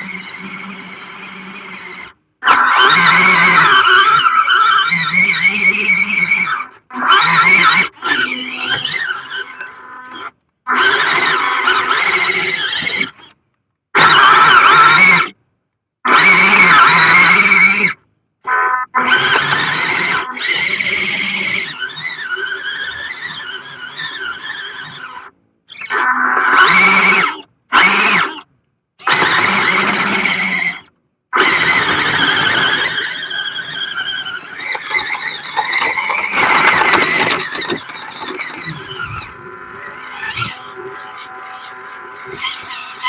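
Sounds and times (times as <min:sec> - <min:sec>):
electric motor and gearbox whining: 0:00.0 - 0:13.4, 0:19.0 - 0:28.4, 0:29.0 - 0:43.0.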